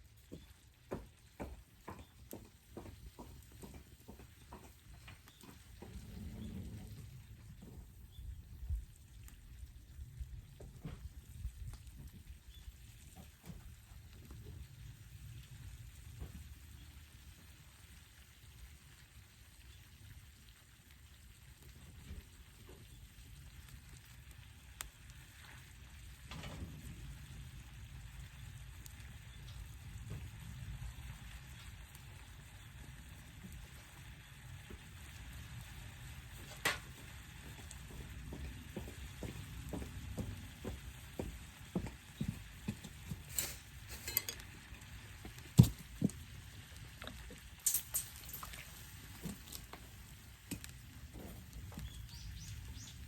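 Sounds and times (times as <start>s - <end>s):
food sizzling over fire: 0.0s - 53.0s.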